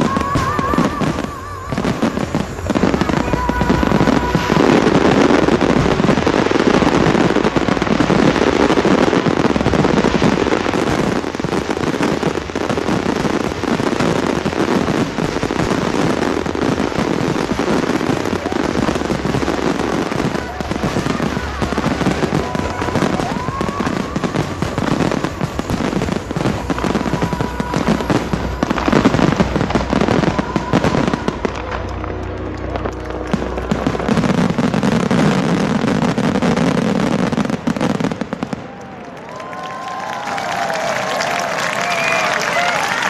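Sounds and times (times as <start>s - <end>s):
fireworks bursting and crackling: 0.0s - 43.0s
warbling firework whistle: 0.0s - 43.0s.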